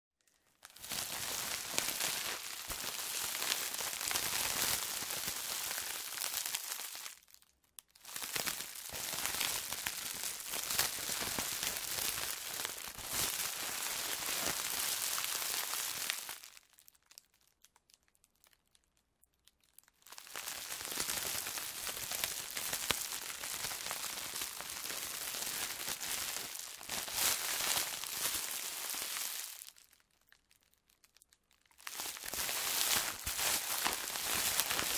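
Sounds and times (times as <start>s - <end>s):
plastic bag crinkling: 0.3s - 17.3s, 20.0s - 34.9s.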